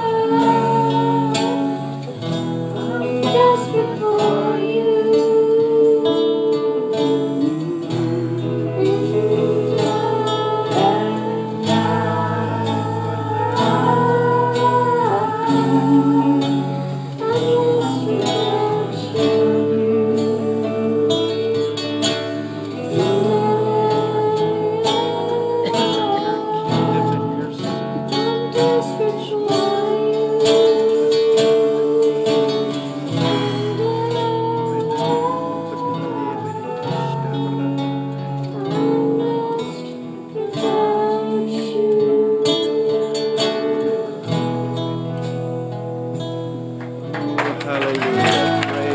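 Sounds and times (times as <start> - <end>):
person singing: 0.0 - 46.3, 47.6 - 48.9
acoustic guitar: 0.0 - 48.9.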